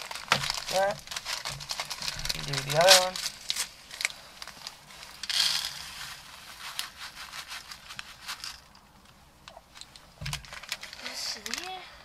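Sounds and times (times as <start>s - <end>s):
paper packet tearing and crinkling: 0.0s - 8.7s, 10.2s - 11.8s.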